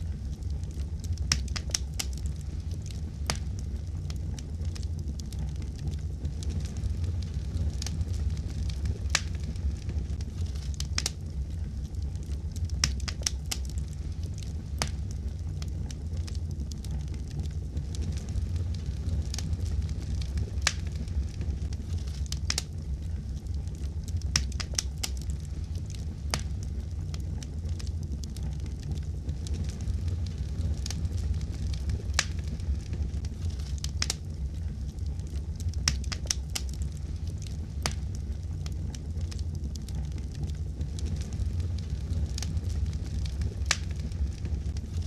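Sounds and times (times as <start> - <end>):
fireplace fire crackling: 0.0 - 45.0.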